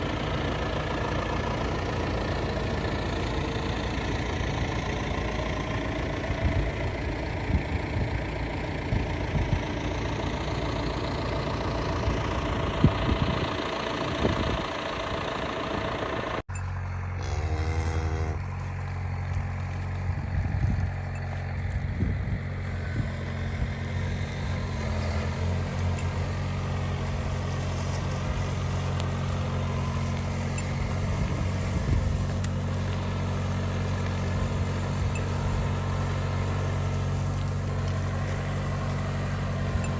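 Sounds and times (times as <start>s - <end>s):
low engine hum: 0.0s - 39.9s
tractor diesel engine running: 0.0s - 39.9s.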